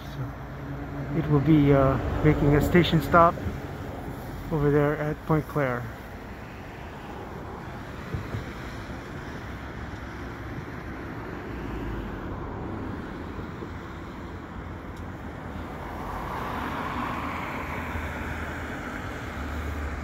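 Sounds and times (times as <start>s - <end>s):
cars driving past: 0.0s - 20.0s
low engine hum: 0.0s - 20.0s.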